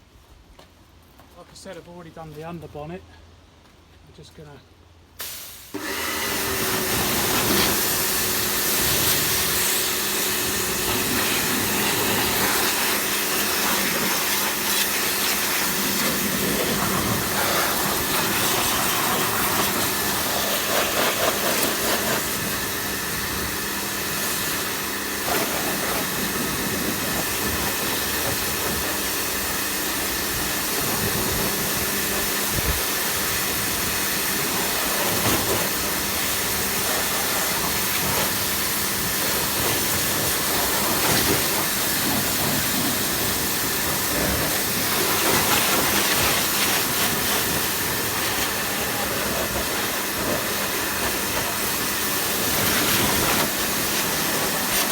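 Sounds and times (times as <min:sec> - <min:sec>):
pressure washer spraying water: 0:05.2 - 0:54.9.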